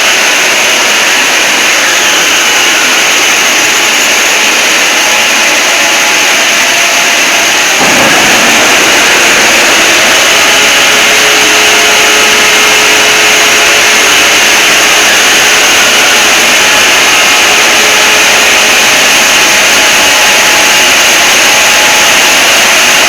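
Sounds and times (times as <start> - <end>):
distorted emergency alarm noise: 0.0 - 23.0.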